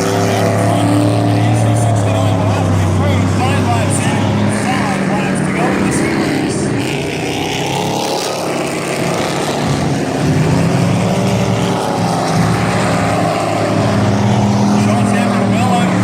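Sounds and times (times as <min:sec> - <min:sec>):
race truck engines revving: 0:00.0 - 0:16.0.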